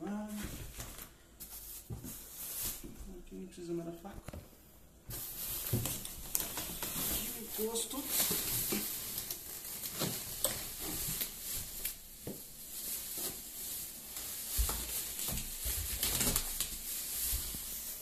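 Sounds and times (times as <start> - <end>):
plastic wrap crinkling: 0.2 - 3.3, 5.1 - 18.0.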